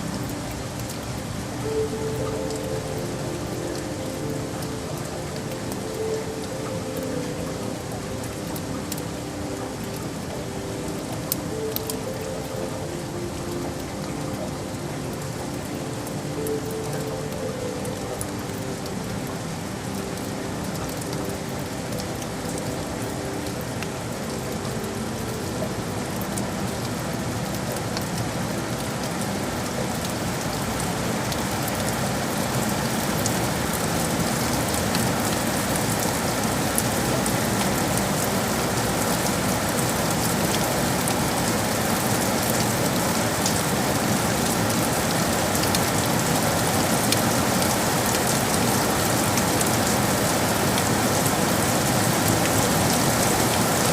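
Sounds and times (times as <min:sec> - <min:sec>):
heavy rain on hard surfaces: 0:00.0 - 0:53.9.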